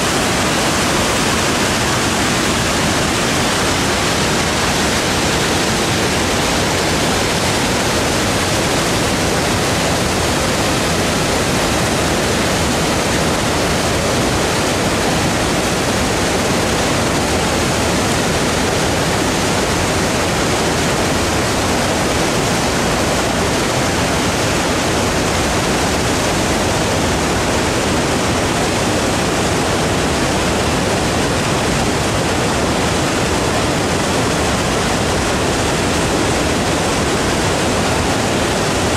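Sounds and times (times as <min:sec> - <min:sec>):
creek water cascading over boulders: 0:00.0 - 0:38.9.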